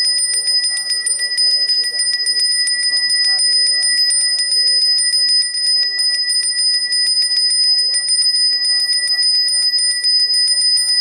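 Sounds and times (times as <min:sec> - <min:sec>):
hand bell rung rapidly: 0:00.0 - 0:11.0.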